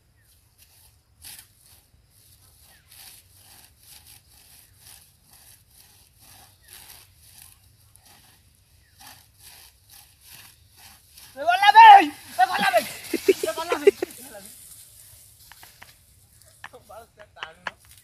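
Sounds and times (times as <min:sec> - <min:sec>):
dry straw rustling: 0:00.2 - 0:17.1.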